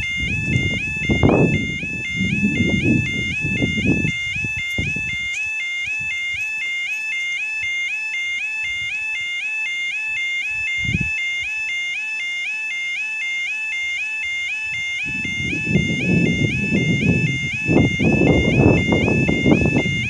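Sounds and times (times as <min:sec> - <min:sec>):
level crossing warning alarm: 0:00.0 - 0:20.0.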